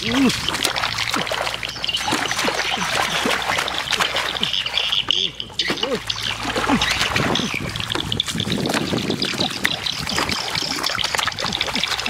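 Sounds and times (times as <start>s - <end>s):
splashing in shallow water: 0.0s - 12.0s.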